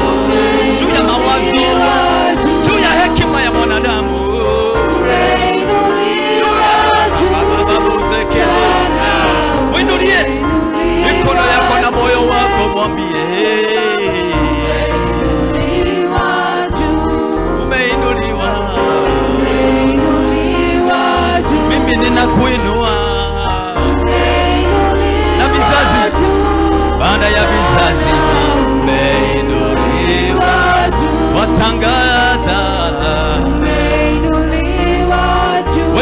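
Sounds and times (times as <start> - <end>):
band playing: 0.0 - 36.0
sustained bass notes: 0.0 - 36.0
voices singing together: 0.0 - 36.0.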